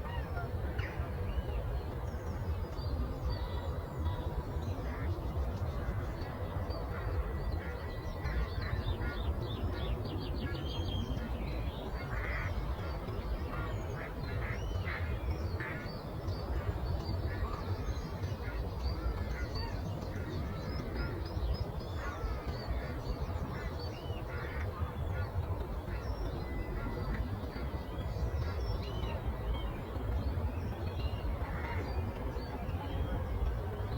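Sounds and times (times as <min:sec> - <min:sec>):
low rumble of breeze: 0:00.0 - 0:33.9.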